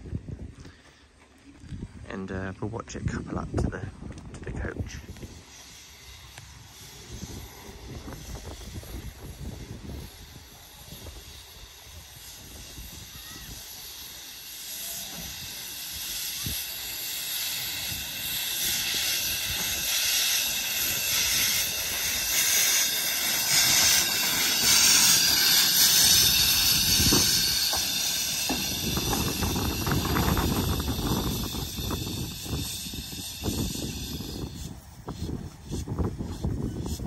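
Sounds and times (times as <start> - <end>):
steam locomotive hissing steam: 4.5 - 37.0.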